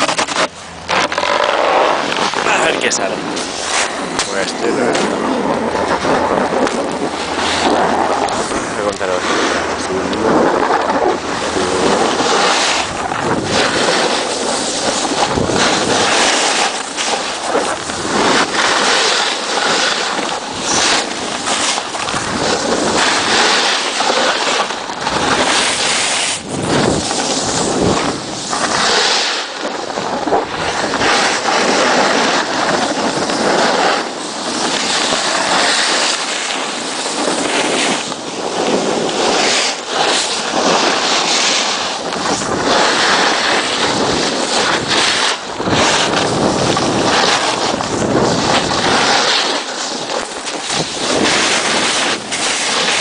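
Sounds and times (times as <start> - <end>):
snowboard scraping on snow: 0.0 - 53.0
wind buffeting microphone: 0.0 - 53.0.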